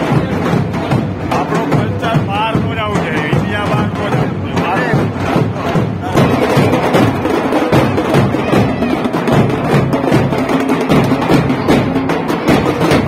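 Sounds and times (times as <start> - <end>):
drums beaten in rhythm: 0.0 - 13.0.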